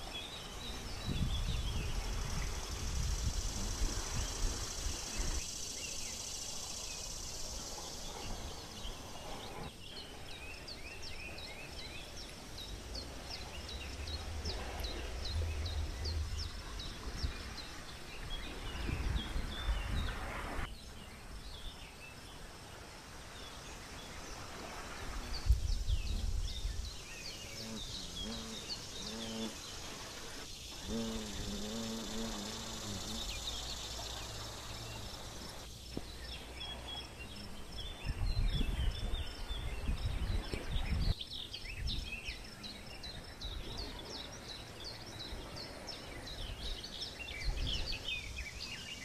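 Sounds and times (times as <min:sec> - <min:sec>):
wind rumble on microphone: 0:00.0 - 0:05.6, 0:11.1 - 0:21.9, 0:23.7 - 0:29.6, 0:30.8 - 0:48.8
small birds chirping: 0:00.0 - 0:49.0.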